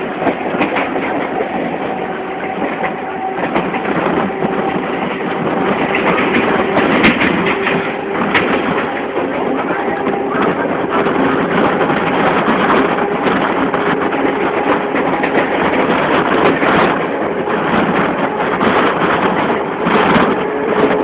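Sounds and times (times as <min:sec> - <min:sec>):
train wheel and wind rush: 0:00.0 - 0:21.0.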